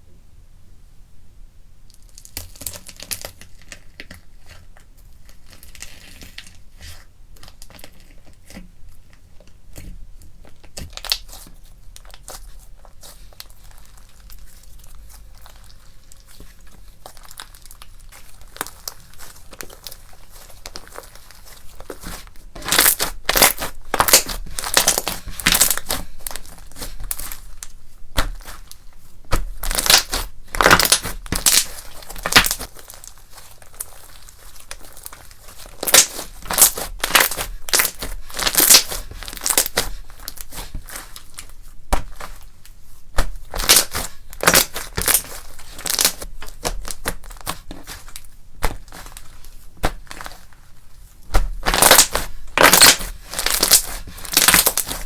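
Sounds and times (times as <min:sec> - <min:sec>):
slime with candy crackling: 0:01.9 - 0:55.0.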